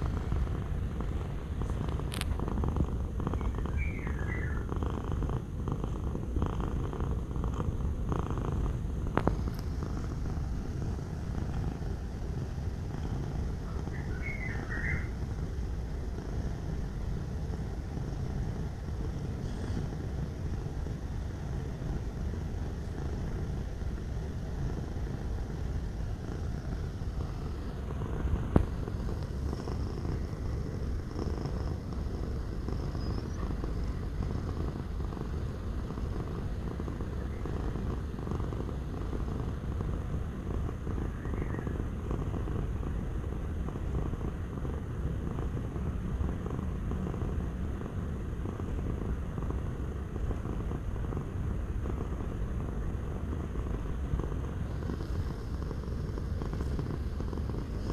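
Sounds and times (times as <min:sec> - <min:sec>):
cat purring: 0:00.0 - 0:57.9.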